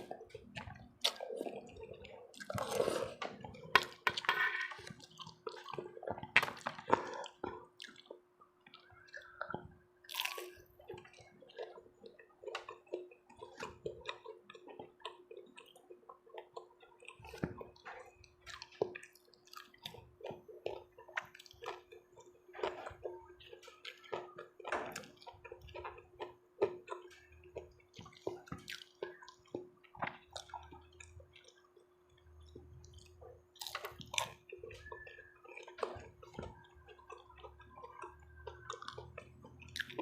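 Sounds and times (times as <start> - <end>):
chewing and sipping soup: 0.0 - 40.0.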